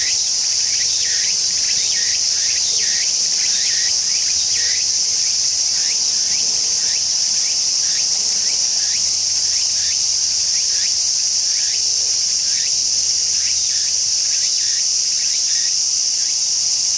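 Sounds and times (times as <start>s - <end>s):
cicada buzzing: 0.0s - 16.5s.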